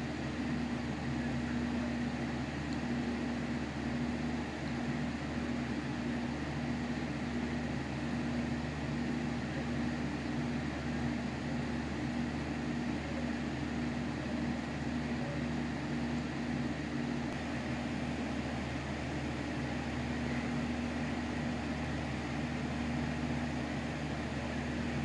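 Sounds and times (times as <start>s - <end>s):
pulsing mechanical hum: 0.0s - 25.0s.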